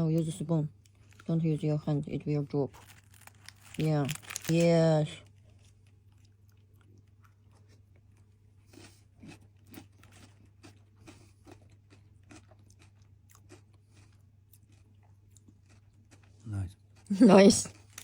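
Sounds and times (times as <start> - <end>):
low steady hum: 0.0 - 18.0
chewing crisp food: 0.7 - 1.3, 2.7 - 18.0.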